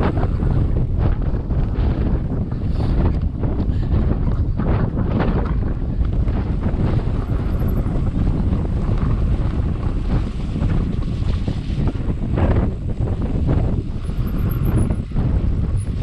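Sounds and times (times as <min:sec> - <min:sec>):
bike tyres rumbling over rough ground: 0:00.0 - 0:16.0
wind buffeting microphone: 0:00.0 - 0:16.0.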